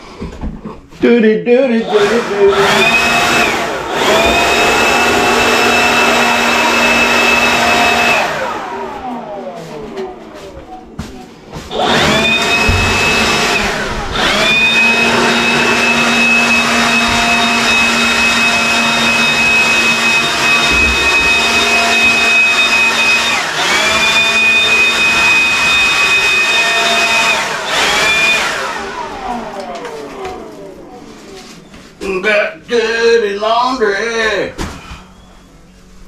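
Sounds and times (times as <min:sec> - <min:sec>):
cordless blower whining: 0:01.8 - 0:11.0, 0:11.6 - 0:31.6.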